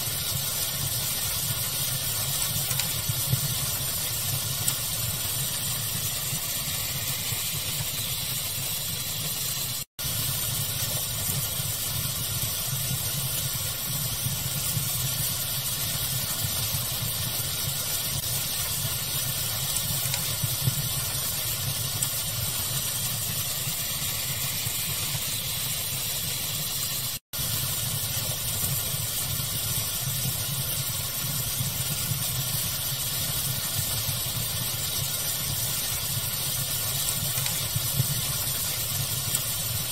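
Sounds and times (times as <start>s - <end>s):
fire crackles: 0.0s - 39.9s
hissing pink noise: 0.0s - 39.9s.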